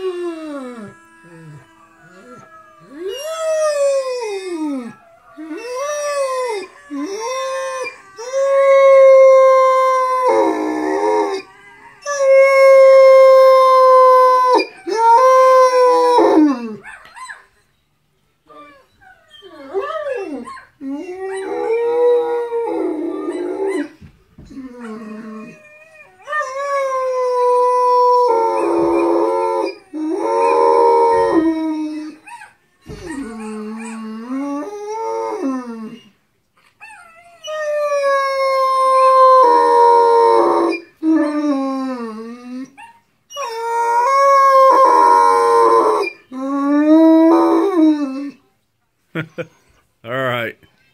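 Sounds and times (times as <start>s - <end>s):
dog howling: 0.0s - 17.0s, 18.5s - 36.1s, 36.9s - 48.4s.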